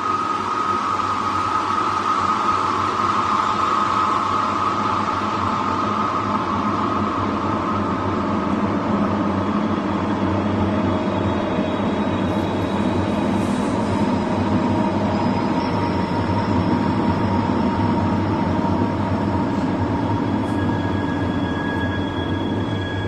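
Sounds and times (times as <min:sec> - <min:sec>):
faint thin whistling tones: 0:00.0 - 0:23.0.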